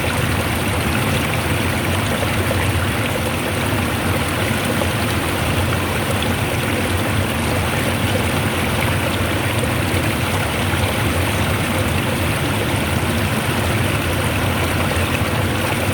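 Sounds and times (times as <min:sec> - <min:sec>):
stream water rushing: 0:00.0 - 0:15.9.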